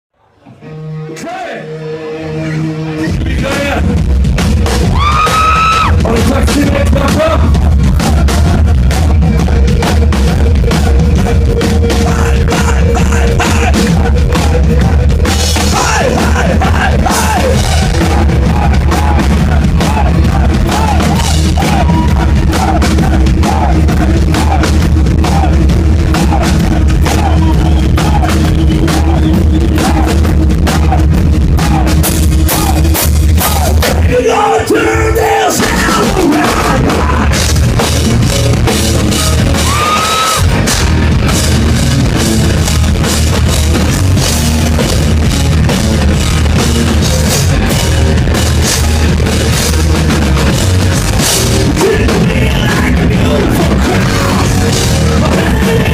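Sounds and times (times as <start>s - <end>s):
hard rock band playing live: 0.5s - 55.9s.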